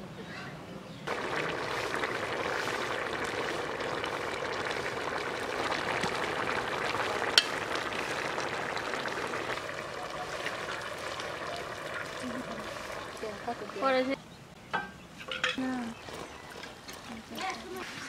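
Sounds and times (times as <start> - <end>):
curry boiling in metal pot: 1.1 - 14.2, 15.2 - 18.0.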